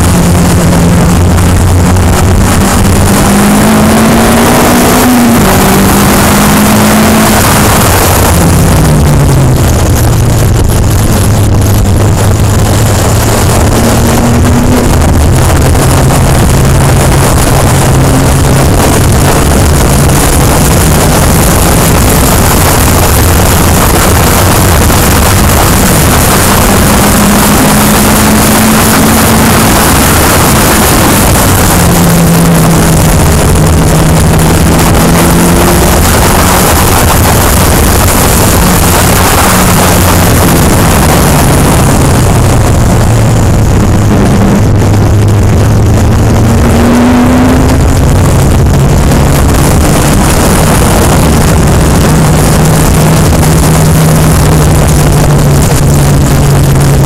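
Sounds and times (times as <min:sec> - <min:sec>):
race car engine revving: 0:00.0 - 0:57.0
wind noise on microphone: 0:00.0 - 0:57.0.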